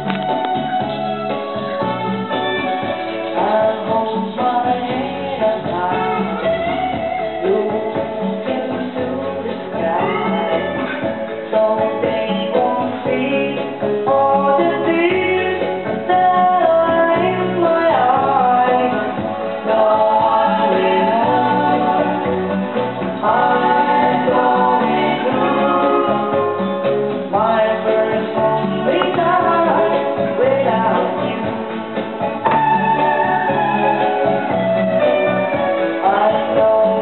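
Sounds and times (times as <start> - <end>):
slide guitar: 0.0 - 37.0
person singing: 2.7 - 37.0.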